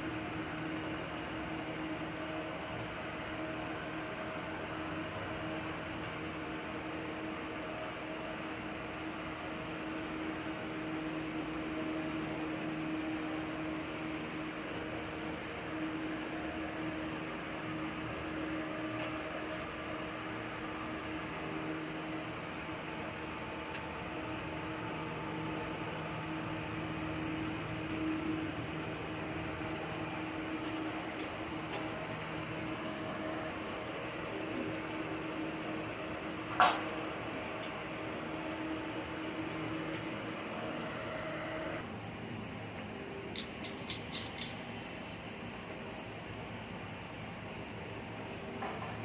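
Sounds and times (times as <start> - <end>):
mechanical hum: 0.0 - 49.0.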